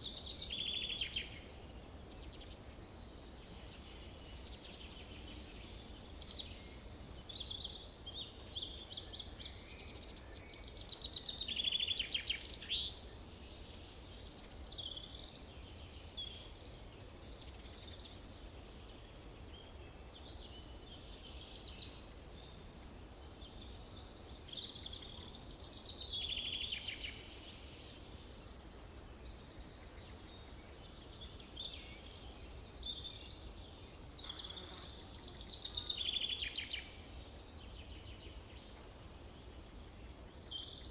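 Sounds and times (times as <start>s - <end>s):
forest birds singing: 0.0s - 40.9s.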